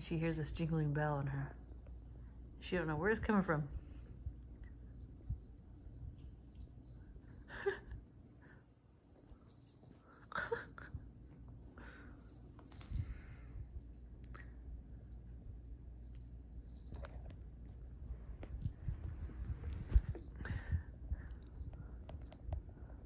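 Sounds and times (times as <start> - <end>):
small jingle bell tinkling: 0.4 - 2.5, 3.8 - 23.0.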